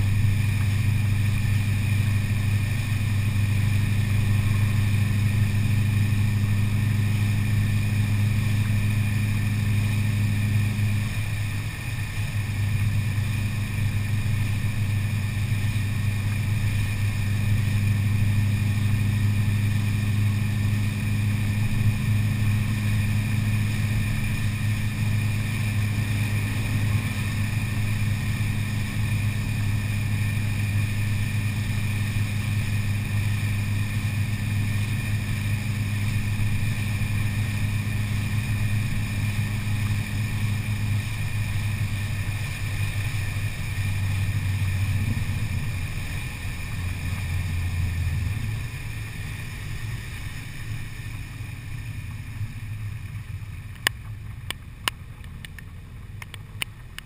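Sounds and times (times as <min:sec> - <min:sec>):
car exhaust low drone: 0:00.0 - 0:57.0
wet road spray hiss: 0:00.0 - 0:57.0.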